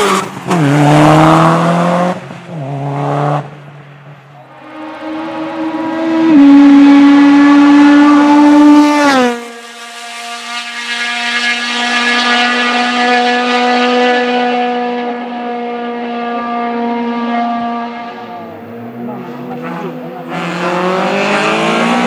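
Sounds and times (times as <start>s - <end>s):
car engine at high revs passing: 0.0s - 22.0s.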